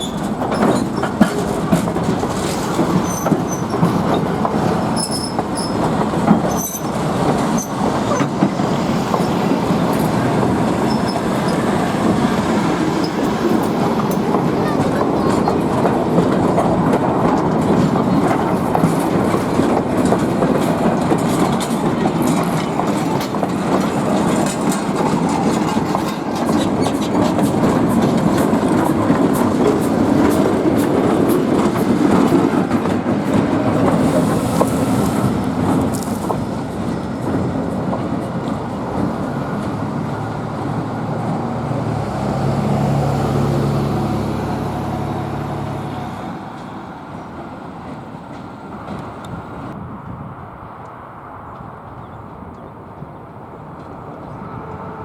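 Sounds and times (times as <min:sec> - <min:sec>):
rail joint clicks: 0:00.0 - 0:55.0
train wheels rumbling on rail: 0:00.0 - 0:55.0.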